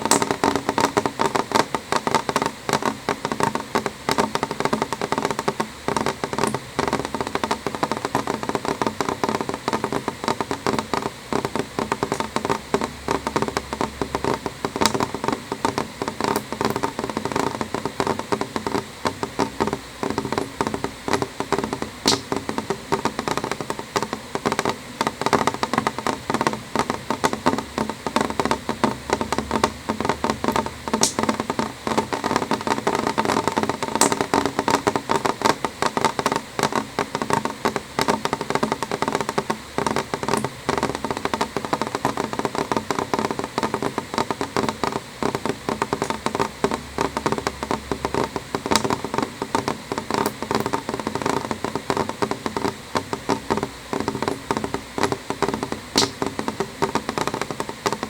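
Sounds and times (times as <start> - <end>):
gentle rain tapping window glass: 0.0 - 58.0.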